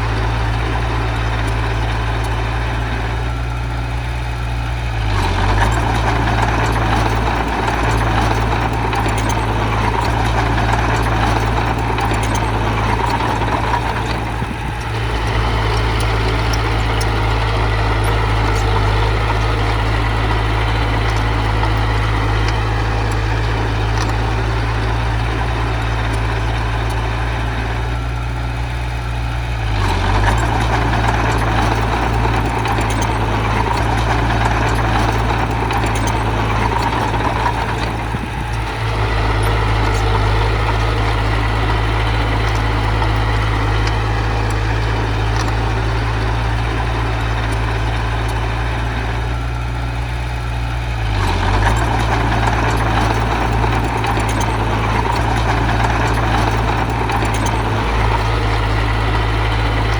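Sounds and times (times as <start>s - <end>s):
heavy machine diesel engine running: 0.0s - 59.9s.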